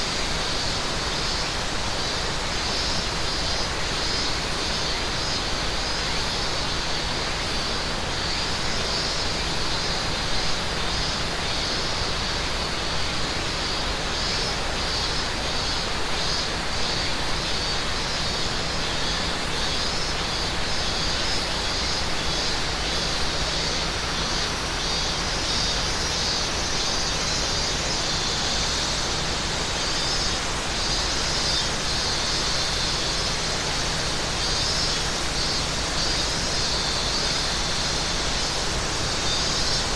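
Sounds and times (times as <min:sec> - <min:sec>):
cicadas buzzing: 0:00.0 - 0:39.9
cicadas pulsing: 0:00.0 - 0:39.9.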